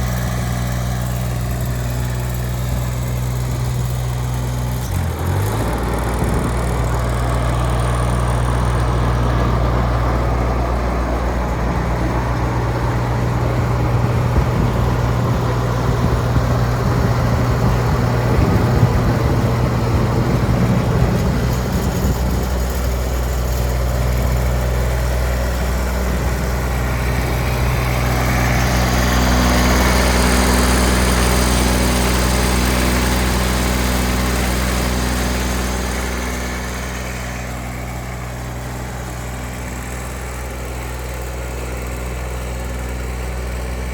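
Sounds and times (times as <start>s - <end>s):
mower diesel engine running: 0.0s - 43.9s.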